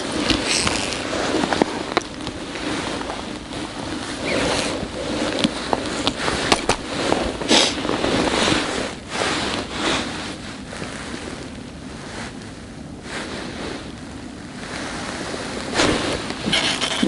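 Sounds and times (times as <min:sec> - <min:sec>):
rustles and clicks: 0:00.0 - 0:17.0.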